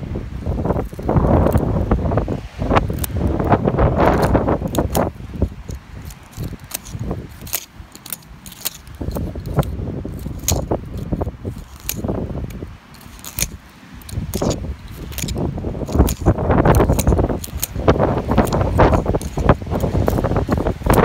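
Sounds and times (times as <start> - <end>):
screwdriver scraping gritty soil: 0.6 - 1.8, 2.7 - 21.0.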